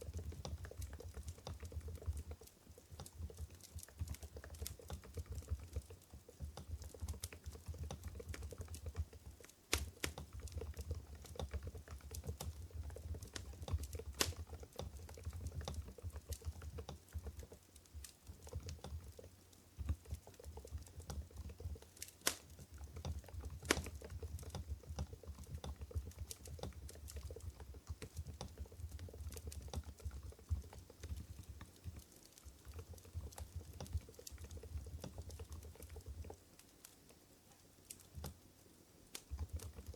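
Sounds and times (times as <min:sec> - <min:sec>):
fast typing on keyboard: 0:00.0 - 0:36.8, 0:39.1 - 0:39.9.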